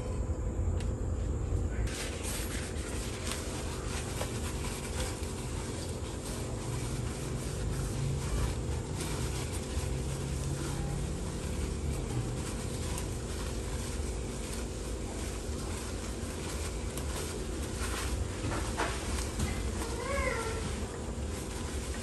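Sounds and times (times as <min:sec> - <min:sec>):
towel rubbing frying pan: 0:01.9 - 0:22.0.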